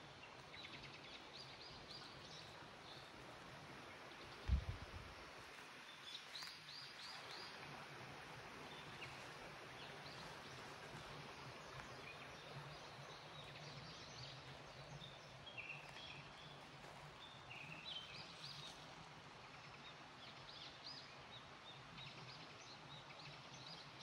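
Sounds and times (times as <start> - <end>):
low steady background noise: 0.0 - 24.0.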